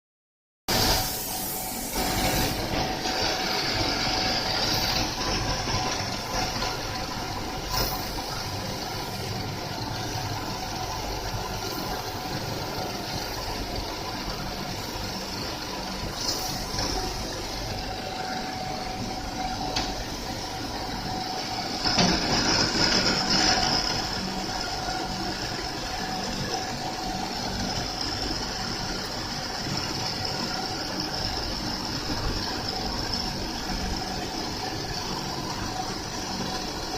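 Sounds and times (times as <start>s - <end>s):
grinding machine drone: 0.7s - 36.9s.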